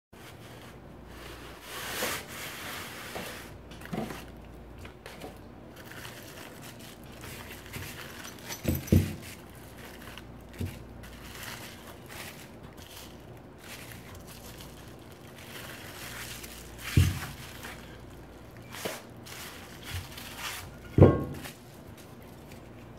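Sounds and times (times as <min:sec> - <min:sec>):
plastic and bubble wrap crinkling: 0:00.2 - 0:22.9.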